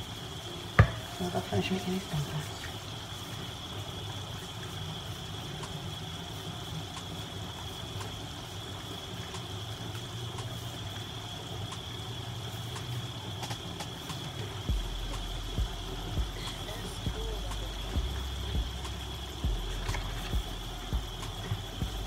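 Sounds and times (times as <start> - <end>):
water boiling in a pot: 0.0 - 22.0.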